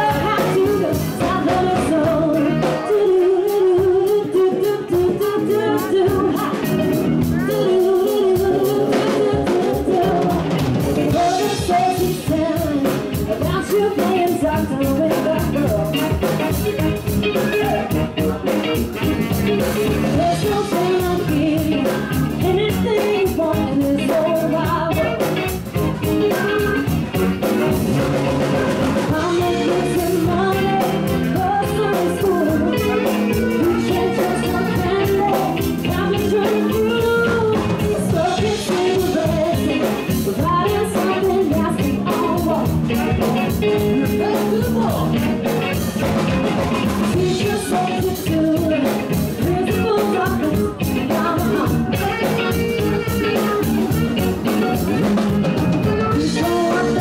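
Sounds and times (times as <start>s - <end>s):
woman singing into a microphone: 0.0s - 18.0s, 19.4s - 27.0s, 28.5s - 46.0s, 46.7s - 57.0s
bass guitar: 0.0s - 57.0s
drum kit: 0.0s - 57.0s
electric guitar: 0.0s - 57.0s.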